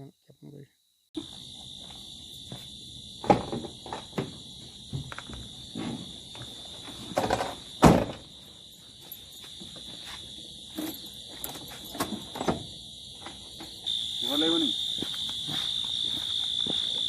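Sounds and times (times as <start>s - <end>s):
high-pitched insect drone: 0.0s - 6.4s, 8.3s - 17.0s.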